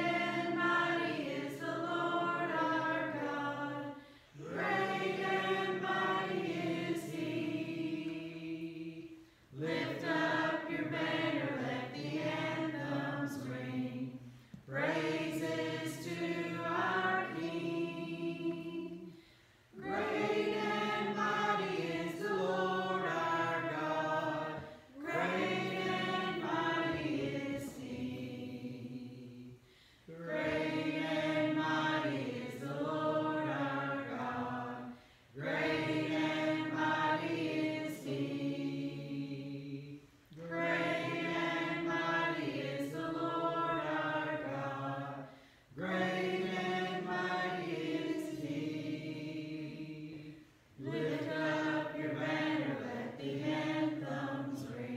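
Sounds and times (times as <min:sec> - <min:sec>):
congregation singing a hymn: 0:00.0 - 0:54.9.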